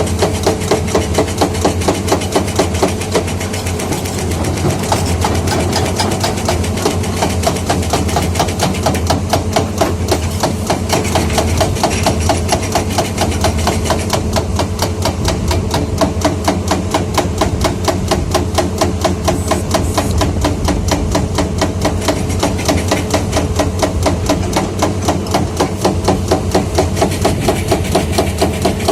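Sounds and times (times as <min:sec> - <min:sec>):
diesel engine running: 0:00.0 - 0:28.9
hydraulic breaker hammer pounding: 0:00.0 - 0:28.9.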